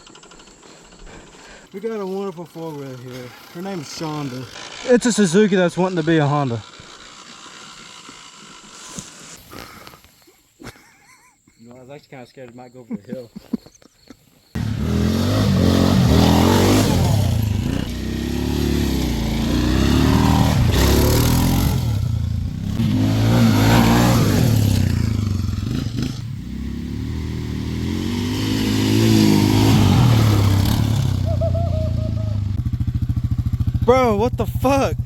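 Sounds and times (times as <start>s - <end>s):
atv engine revving: 0.0s - 9.4s, 14.5s - 35.0s.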